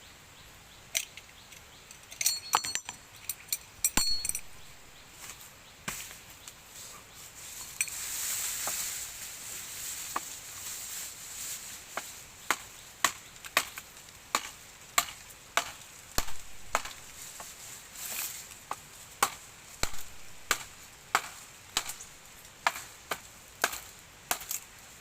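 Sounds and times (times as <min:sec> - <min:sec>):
soft hiss: 0:00.0 - 0:25.0.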